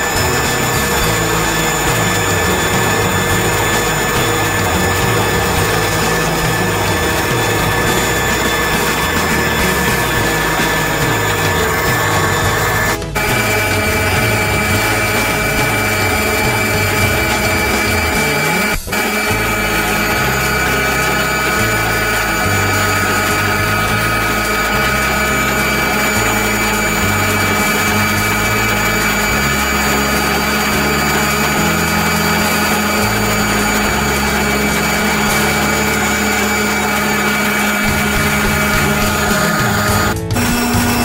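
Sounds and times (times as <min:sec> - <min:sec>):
electric stand mixer running: 0:00.0 - 0:41.0.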